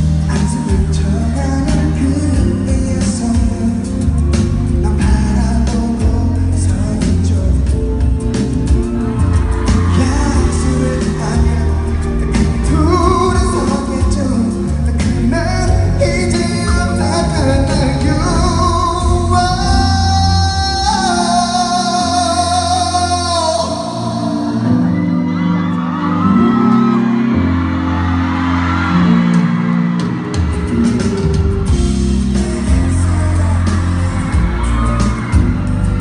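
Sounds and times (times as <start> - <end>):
pop music with heavy bass: 0.0 - 24.5, 30.2 - 36.0
man singing: 0.0 - 24.8, 31.6 - 36.0.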